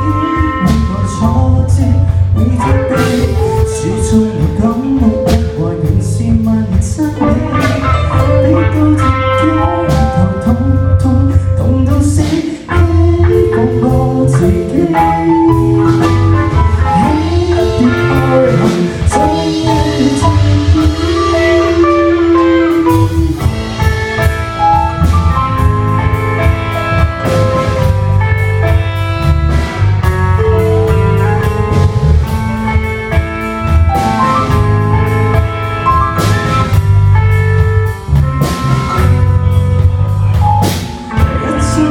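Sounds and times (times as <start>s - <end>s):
bending melody line: 0.0s - 41.9s
drums beating: 0.0s - 41.9s
live band playing: 0.0s - 41.9s.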